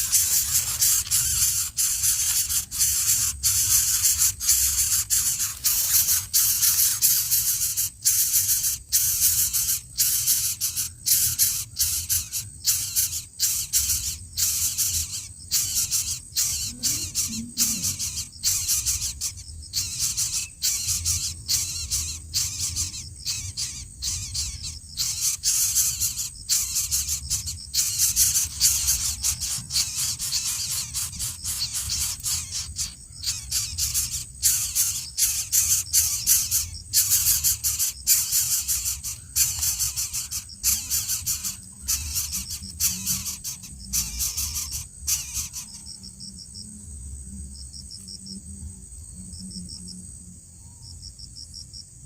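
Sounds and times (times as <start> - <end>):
insects trilling chorus: 0.0 - 52.0.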